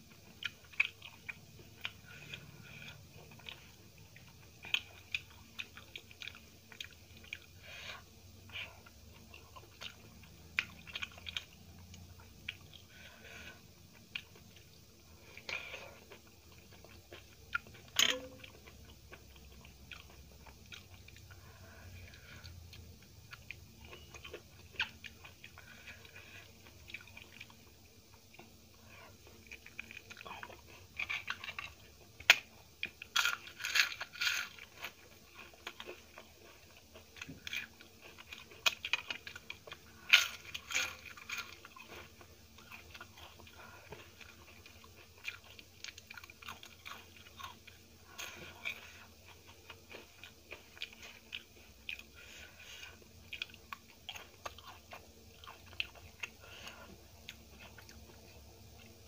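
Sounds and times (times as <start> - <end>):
close chewing and mouth sounds: 0.0 - 59.0.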